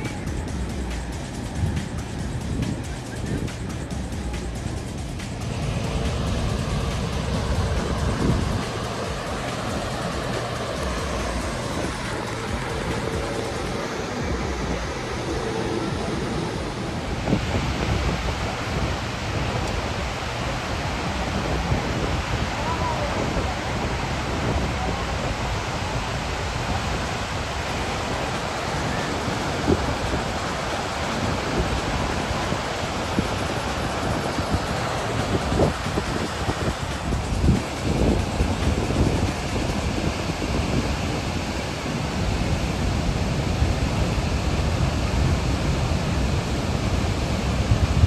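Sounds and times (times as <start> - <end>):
waterfall roaring: 0.0 - 48.0.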